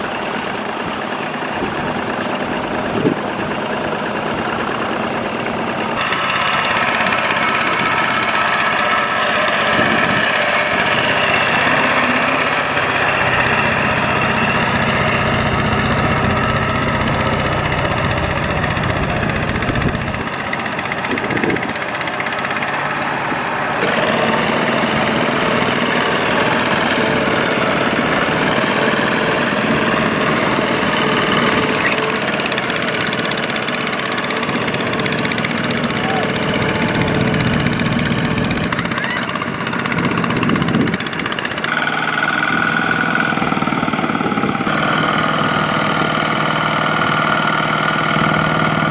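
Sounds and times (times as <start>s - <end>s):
tractor engine running under load: 0.0s - 48.9s.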